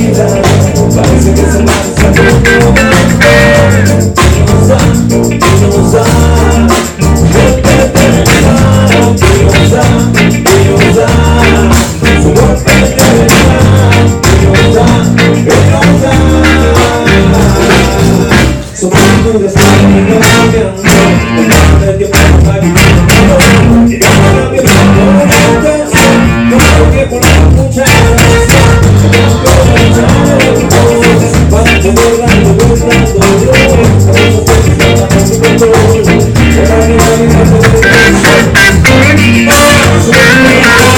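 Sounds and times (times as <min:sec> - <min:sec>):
reggae band playing: 0:00.0 - 0:40.9.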